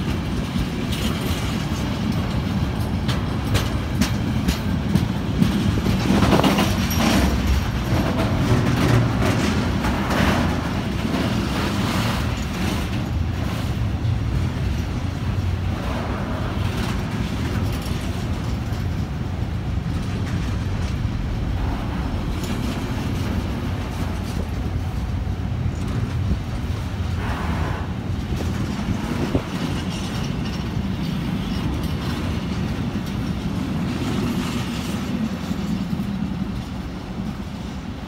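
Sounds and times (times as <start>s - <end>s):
rumble of wheels on rails: 0.0s - 38.0s.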